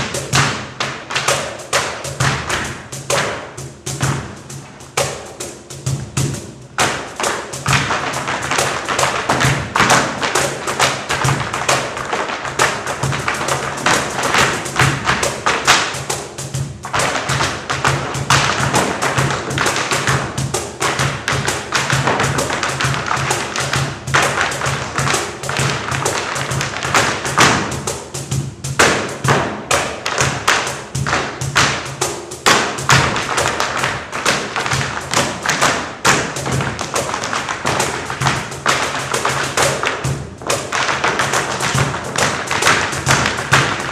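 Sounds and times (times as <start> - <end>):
tap shoes on stage floor: 0.0 - 43.9.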